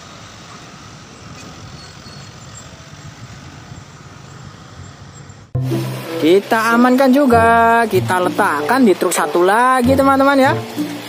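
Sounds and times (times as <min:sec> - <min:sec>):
trucks and cars driving past: 0:00.0 - 0:11.0.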